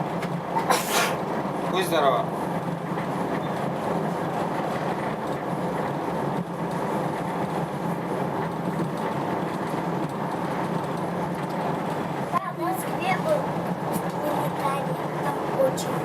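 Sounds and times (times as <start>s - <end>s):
passenger train running: 0.0s - 16.0s.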